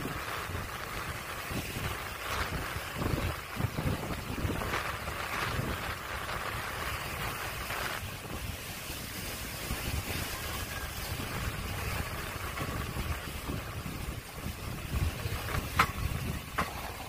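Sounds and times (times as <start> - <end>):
hiss: 0.0 - 17.0
wind buffeting the microphone: 0.0 - 17.0.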